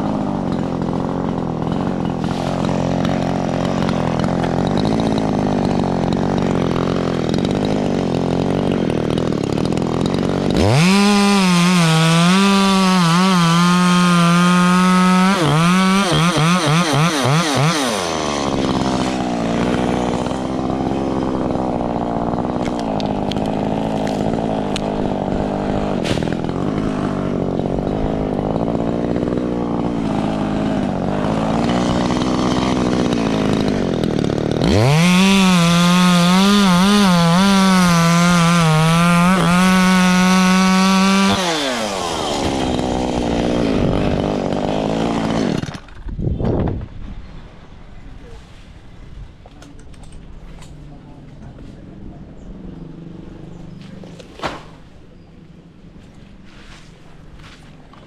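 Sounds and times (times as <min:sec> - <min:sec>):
chainsaw cutting branches: 0:00.0 - 0:46.4, 0:53.3 - 0:55.1.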